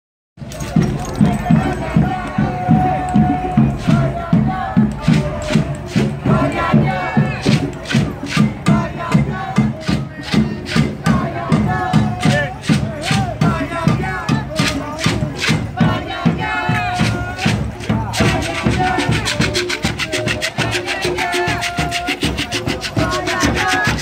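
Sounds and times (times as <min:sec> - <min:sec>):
bass drum beating: 0:00.4 - 0:24.0
hand drums: 0:00.4 - 0:24.0
voices chanting and singing: 0:00.4 - 0:24.0.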